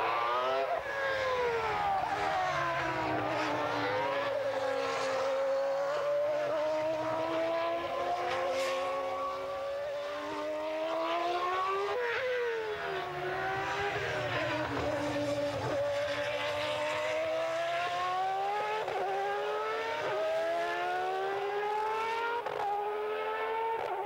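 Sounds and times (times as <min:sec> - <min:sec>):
racing car engine at speed: 0:00.0 - 0:24.0.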